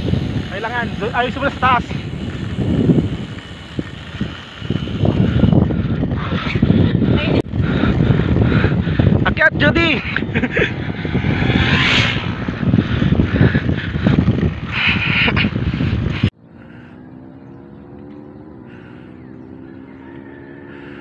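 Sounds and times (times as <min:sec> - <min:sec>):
motor humming: 0:00.0 - 0:09.2, 0:10.1 - 0:19.4
wind rumbling on microphone: 0:00.0 - 0:21.0.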